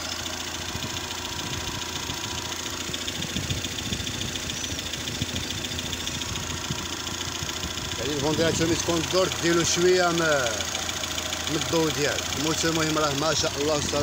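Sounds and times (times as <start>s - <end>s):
petrol engine idling: 0.0s - 14.0s.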